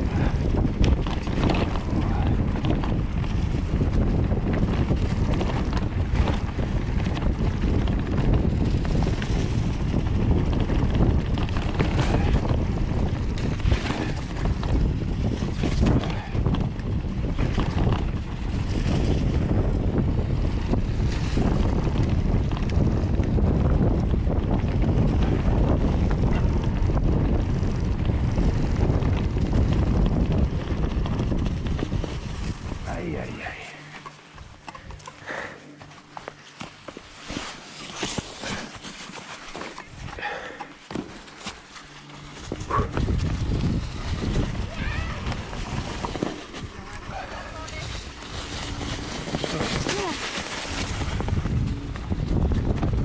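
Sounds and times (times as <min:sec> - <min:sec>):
bike clicks and rattles: 0:00.0 - 0:53.0
bike tyres rolling on dirt: 0:00.0 - 0:53.0
wind rushing over microphone: 0:00.0 - 0:53.0.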